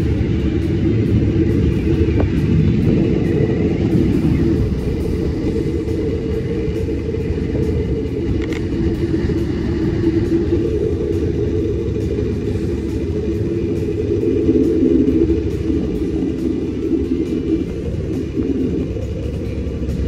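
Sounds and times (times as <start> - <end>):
wind on microphone: 0.0 - 20.0
zipline trolley rumbling on cable: 0.0 - 20.0.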